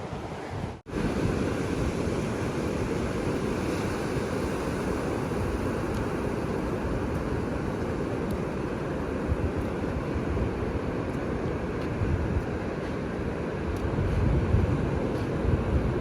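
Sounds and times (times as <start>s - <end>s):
ocean surf rushing: 0.0s - 16.0s
wind on microphone: 0.0s - 16.0s.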